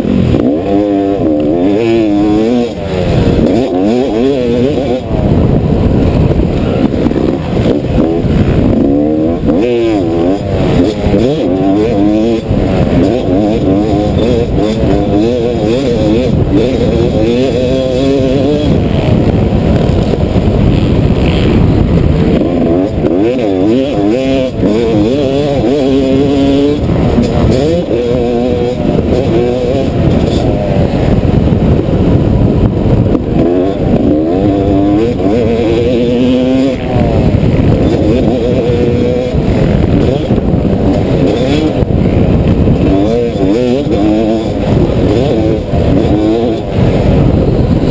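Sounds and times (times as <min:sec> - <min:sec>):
dirt bike engine revving: 0:00.0 - 0:47.9
wind rumble on microphone: 0:00.0 - 0:47.9.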